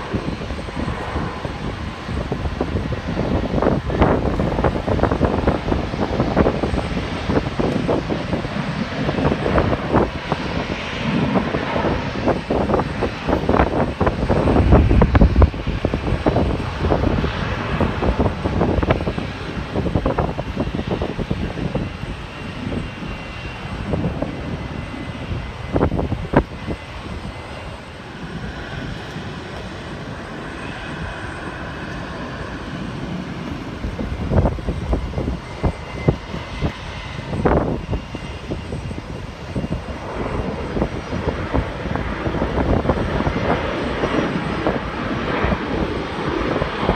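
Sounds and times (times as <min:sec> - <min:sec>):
jet engine noise: 0:00.0 - 0:46.9
wind buffeting microphone: 0:00.0 - 0:46.9.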